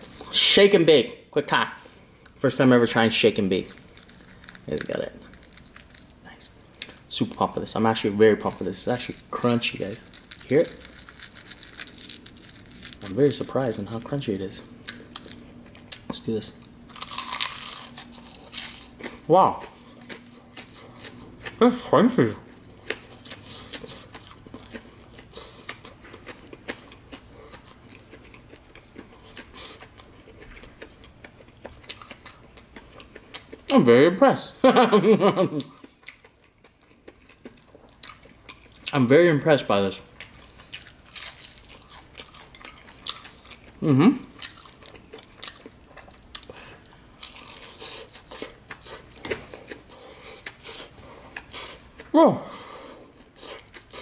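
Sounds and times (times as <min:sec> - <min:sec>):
crunchy chewing: 0:03.5 - 0:07.6, 0:08.4 - 0:21.6, 0:22.5 - 0:33.7, 0:35.5 - 0:39.1, 0:39.8 - 0:52.1.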